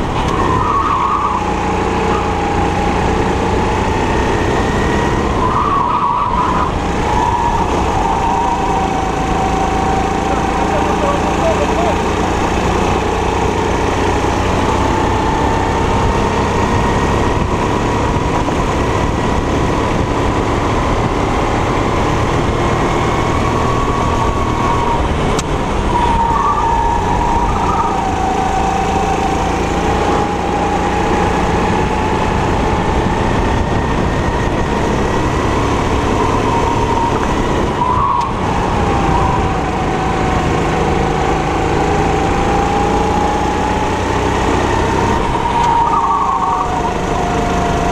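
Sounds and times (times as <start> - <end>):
kart engine revving: 0.0 - 47.9.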